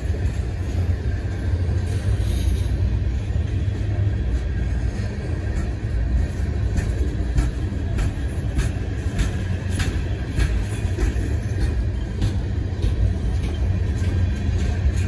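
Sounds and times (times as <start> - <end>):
freight train rumbling past: 0.0 - 15.0
train wheels clicking: 0.0 - 15.0.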